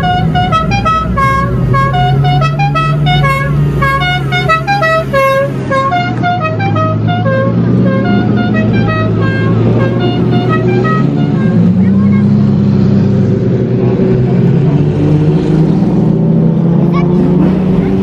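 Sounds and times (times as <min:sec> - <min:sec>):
car engines low drone: 0:00.0 - 0:18.0.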